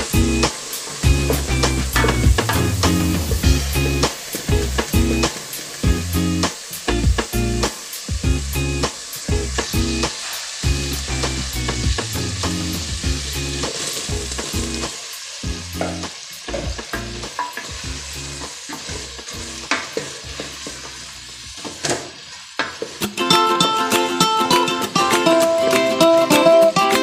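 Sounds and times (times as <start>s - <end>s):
masala sizzling in a pot: 0.0s - 27.0s.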